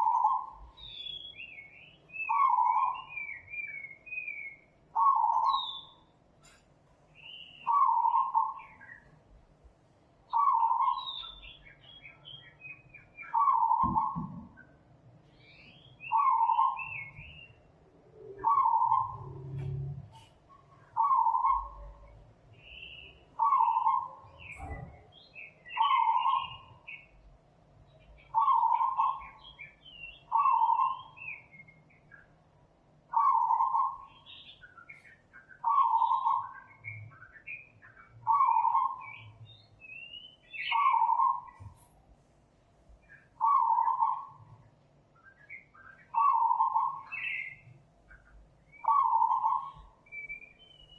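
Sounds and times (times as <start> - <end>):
birds chirping: 0.0 - 42.1, 42.9 - 50.9.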